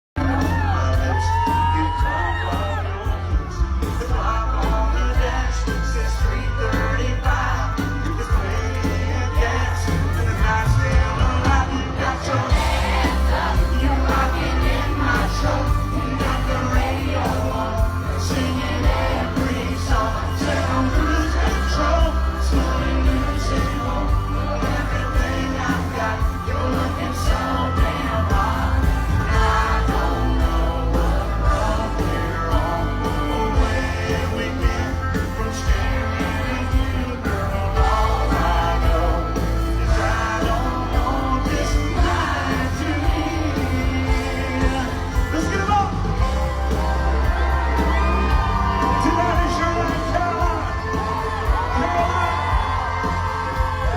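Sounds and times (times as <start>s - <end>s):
crowd yelling and singing along: 0.0s - 53.9s
live country band and singer: 0.0s - 53.9s.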